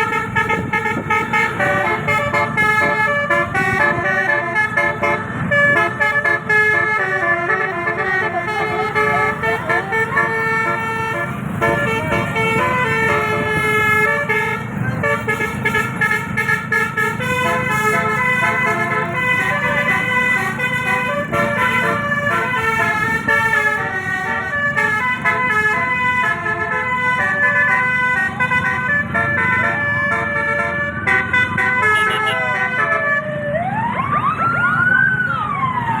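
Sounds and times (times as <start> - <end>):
bus horn playing multi-tone chords: 0.0 - 33.4
siren-like horn wail: 0.0 - 36.0.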